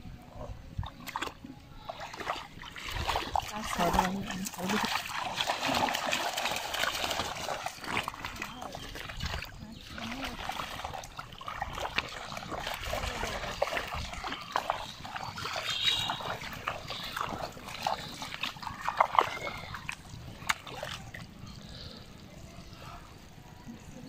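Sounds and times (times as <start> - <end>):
feet splashing through water and mud: 0.8 - 23.4.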